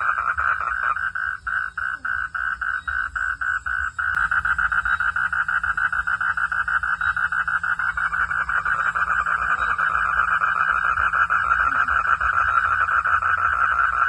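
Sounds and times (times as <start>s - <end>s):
frogs calling in pulsed notes: 0.0s - 14.0s.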